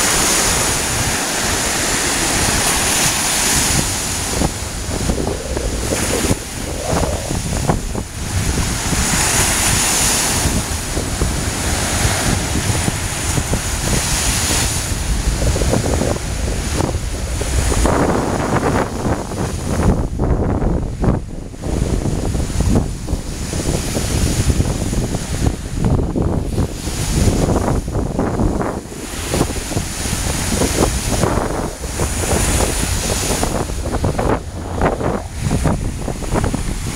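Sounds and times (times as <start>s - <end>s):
waves breaking on shore: 0.0s - 36.9s
wind rumble on microphone: 0.0s - 36.9s.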